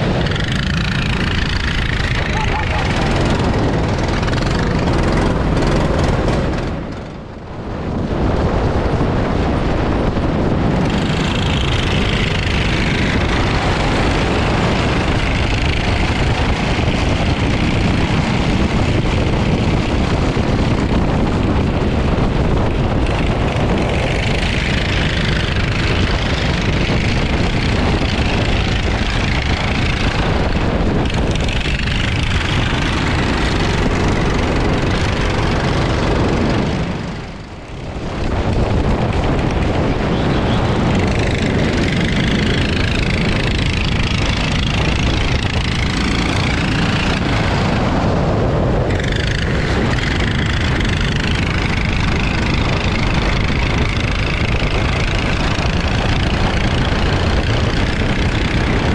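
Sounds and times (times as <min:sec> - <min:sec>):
go-kart engine at speed: 0:00.0 - 0:58.9.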